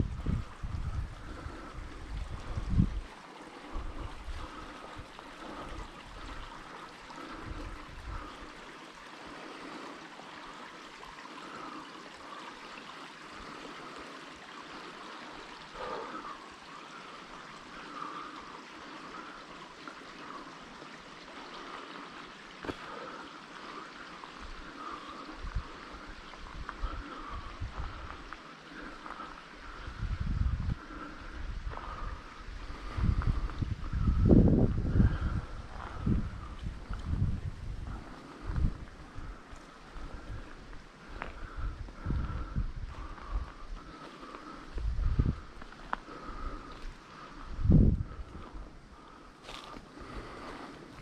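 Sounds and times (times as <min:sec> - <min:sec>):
running water: 0:00.0 - 0:51.0.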